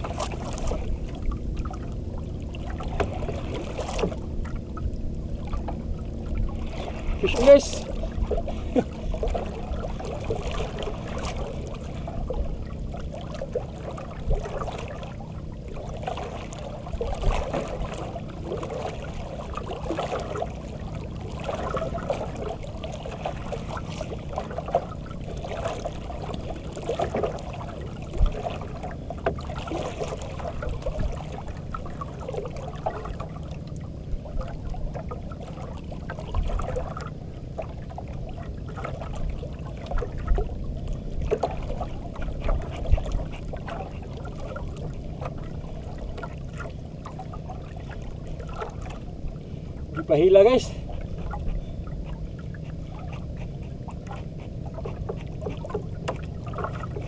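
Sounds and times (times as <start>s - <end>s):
steady low hum: 0.0s - 57.0s
water lapping against boat hull: 0.0s - 57.0s.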